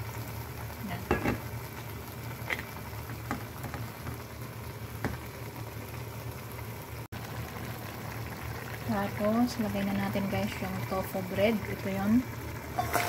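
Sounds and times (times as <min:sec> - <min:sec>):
food sizzling and bubbling in pot: 0:00.0 - 0:13.0.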